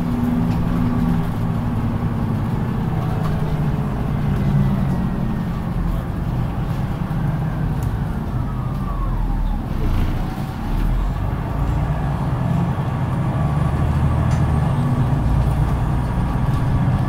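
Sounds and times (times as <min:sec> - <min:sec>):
bus engine hum: 0:00.0 - 0:17.0
road noise: 0:00.0 - 0:17.0.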